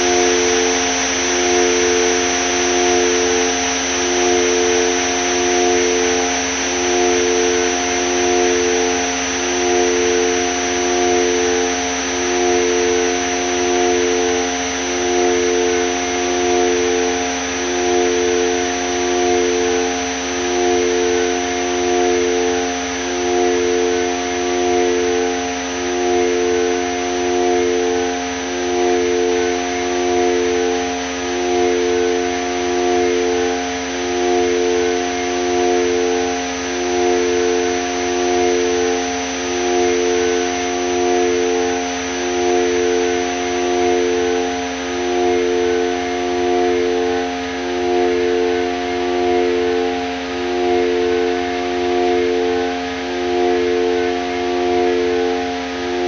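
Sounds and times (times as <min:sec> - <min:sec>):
synthesizer drone: 0:00.0 - 0:56.0.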